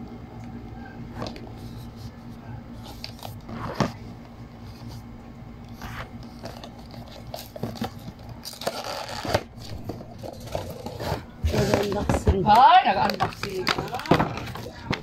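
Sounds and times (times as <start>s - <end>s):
cardboard boxes rustling in hands: 1.1s - 15.0s.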